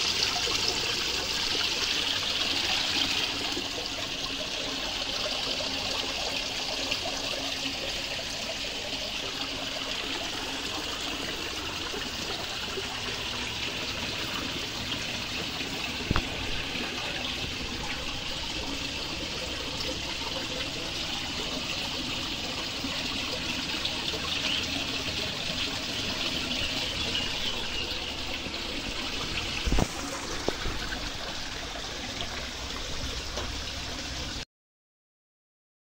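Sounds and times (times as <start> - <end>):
waterfall splashing into pond: 0.0 - 34.4.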